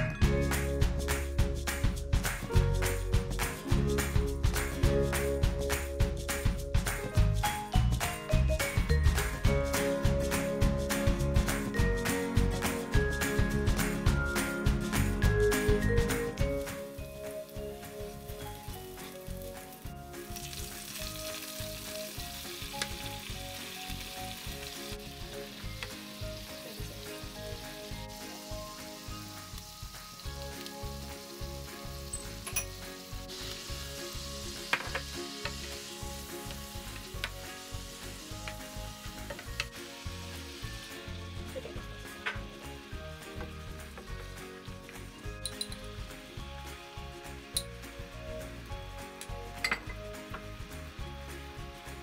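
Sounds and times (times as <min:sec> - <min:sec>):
garlic sizzling in hot oil: 0:00.6 - 0:52.0.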